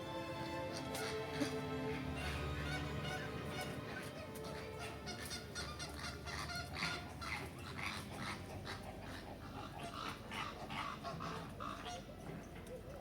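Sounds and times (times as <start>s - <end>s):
birds calling: 0.7s - 13.0s.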